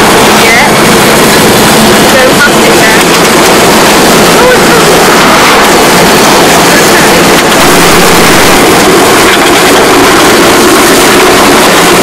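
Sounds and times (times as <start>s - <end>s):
van engine and road noise: 0.0s - 12.0s.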